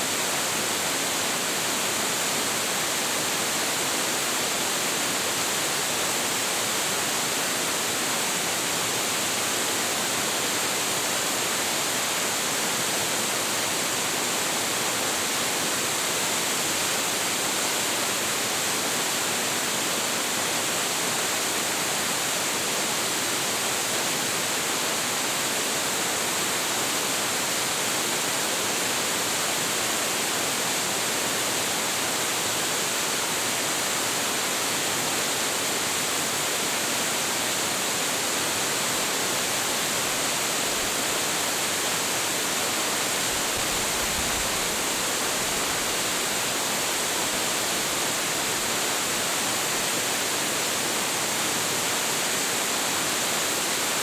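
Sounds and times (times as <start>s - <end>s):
waterfall pouring heavily: 0.0s - 54.0s.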